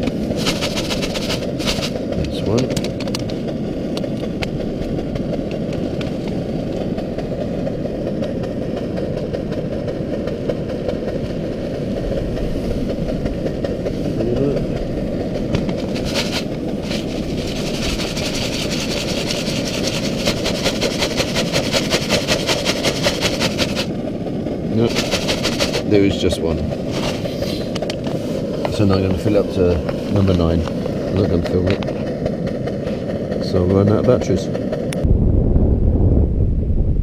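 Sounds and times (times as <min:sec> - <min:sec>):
stove burning with low roar: 0:00.0 - 0:35.1.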